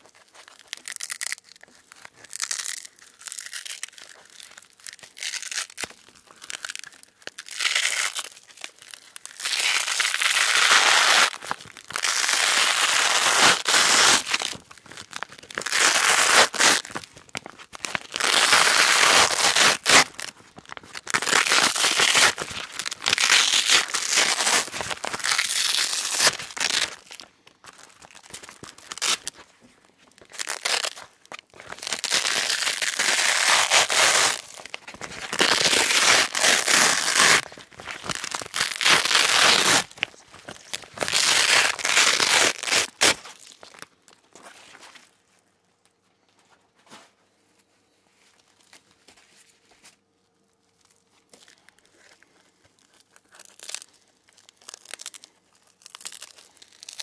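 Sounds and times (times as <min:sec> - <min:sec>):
velcro ripping apart: 0:00.0 - 0:43.9, 0:51.3 - 0:57.0.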